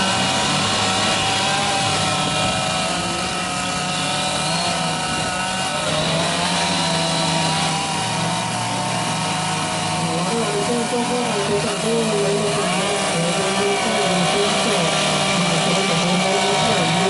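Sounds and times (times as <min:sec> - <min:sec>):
chainsaws cutting wood: 0:00.0 - 0:17.0.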